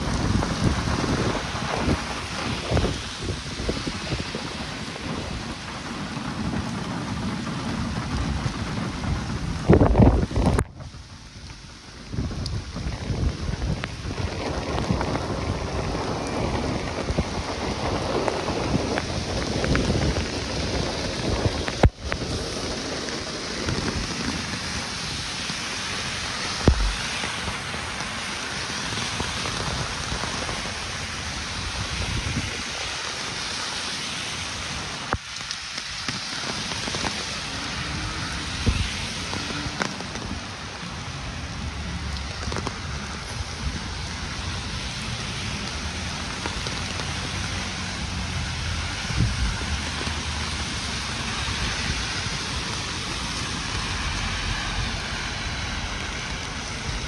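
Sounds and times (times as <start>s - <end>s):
rain on pavement: 0.0s - 57.0s.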